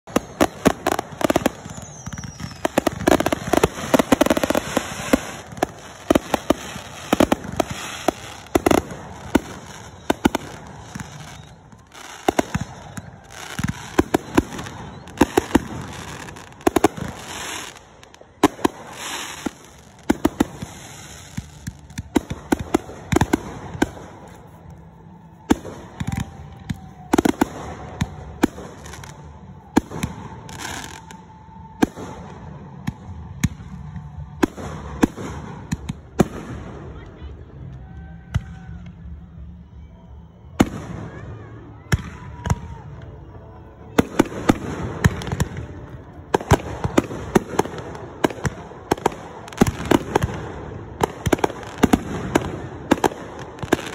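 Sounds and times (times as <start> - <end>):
fireworks crackling: 0.0 - 53.9.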